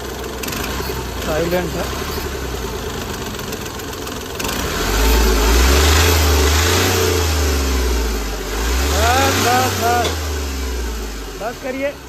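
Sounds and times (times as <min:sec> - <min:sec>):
diesel car engine idling and revving: 0:00.0 - 0:12.0.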